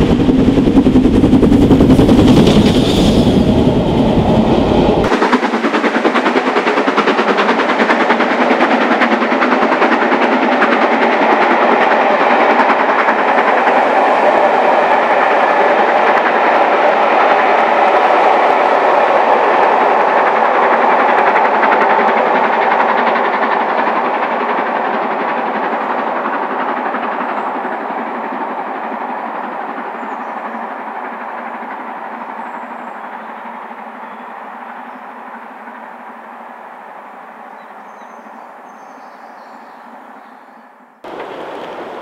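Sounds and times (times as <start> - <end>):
train coaches rolling past: 0.0 - 42.0.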